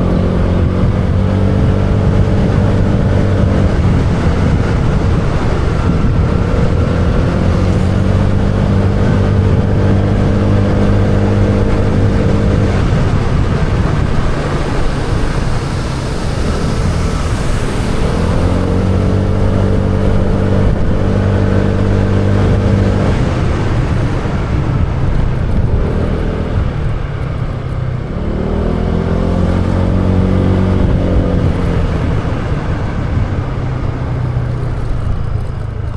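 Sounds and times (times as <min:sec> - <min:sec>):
motorbike engine running: 0:00.0 - 0:35.9
wind rushing over microphone: 0:00.0 - 0:35.9.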